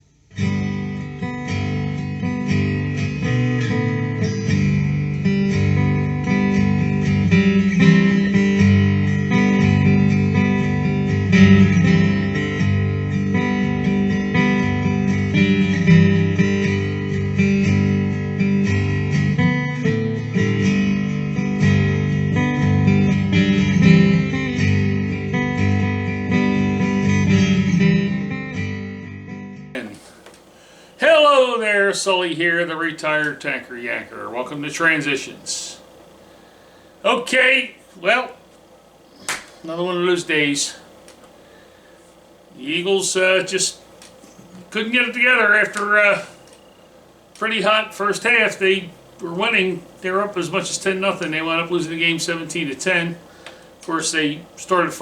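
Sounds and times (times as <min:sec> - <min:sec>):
acoustic guitar music: 0:00.0 - 0:35.5, 0:39.6 - 0:55.0.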